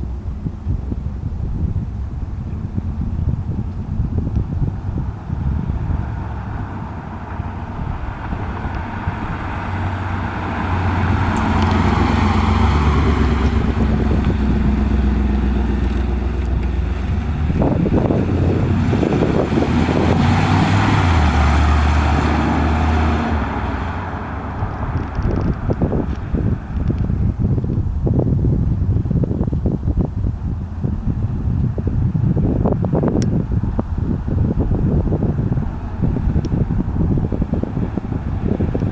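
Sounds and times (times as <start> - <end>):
car engine running while driving: 0.0 - 38.9
wind on microphone: 0.0 - 38.9.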